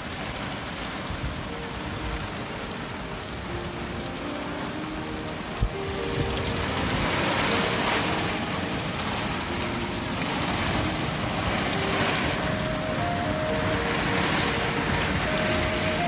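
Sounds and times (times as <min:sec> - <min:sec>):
gusting wind: 0:00.0 - 0:16.0
heavy rain: 0:00.0 - 0:16.0
faint background music: 0:00.4 - 0:16.0.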